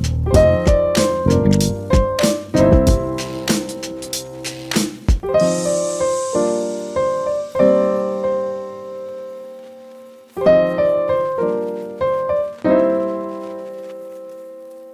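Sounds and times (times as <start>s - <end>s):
soft piano chords: 0.3s - 4.6s, 5.2s - 14.9s.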